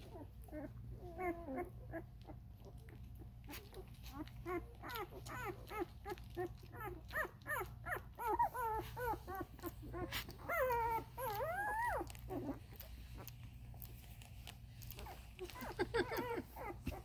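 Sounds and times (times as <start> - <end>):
puppies whimpering: 0.0 - 17.0.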